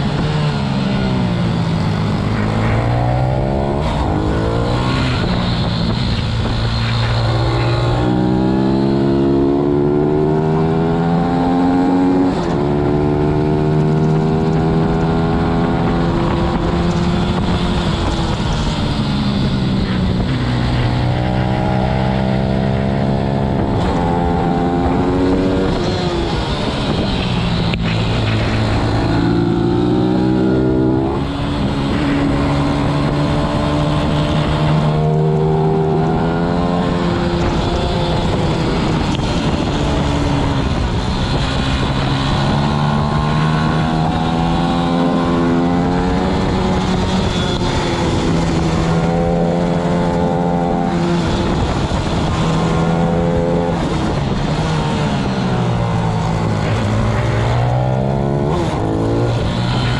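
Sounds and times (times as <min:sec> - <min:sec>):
motorbike engine revving through gears: 0:00.0 - 0:59.9.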